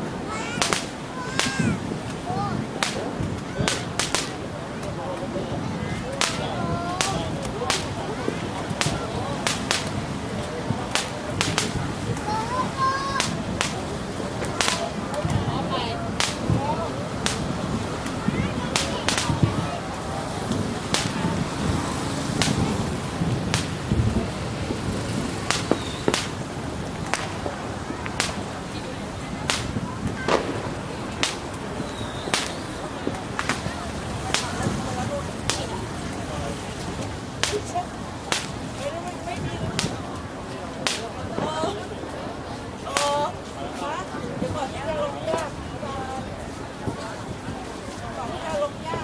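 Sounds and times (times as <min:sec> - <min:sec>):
crowd noise: 0:00.0 - 0:49.0
fireworks cracking: 0:00.0 - 0:49.0
steady background noise: 0:00.0 - 0:49.0.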